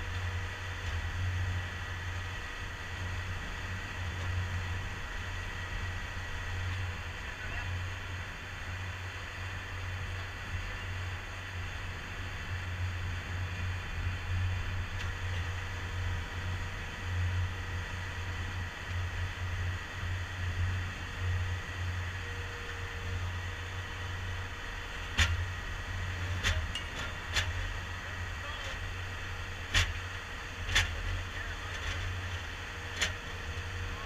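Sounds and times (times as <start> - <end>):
diesel engine droning: 0.0 - 34.0.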